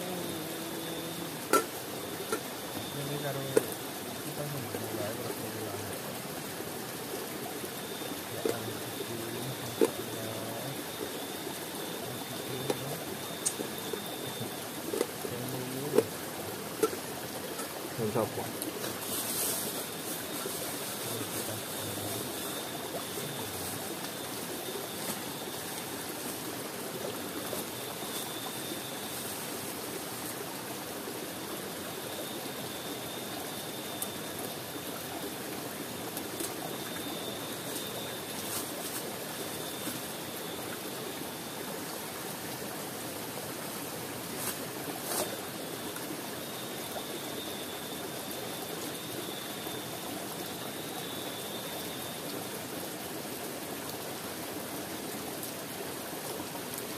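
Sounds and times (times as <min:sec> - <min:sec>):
river flowing over rocks: 0:00.0 - 0:56.9.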